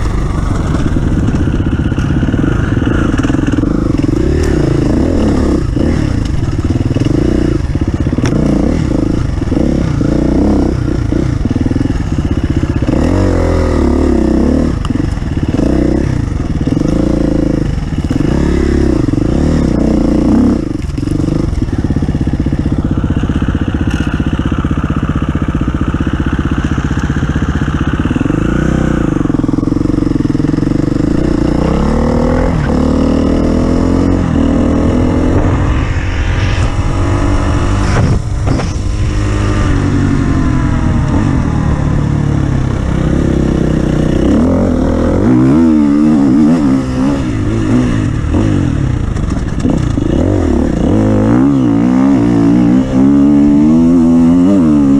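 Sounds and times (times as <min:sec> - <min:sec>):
offroad vehicle engine revving: 0:00.0 - 0:22.0, 0:27.9 - 0:54.9.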